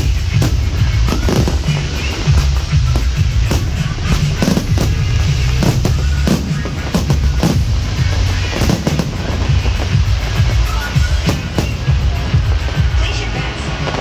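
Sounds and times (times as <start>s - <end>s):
fireworks shells bursting: 0.0s - 14.0s
loud bass-heavy music: 0.0s - 14.0s.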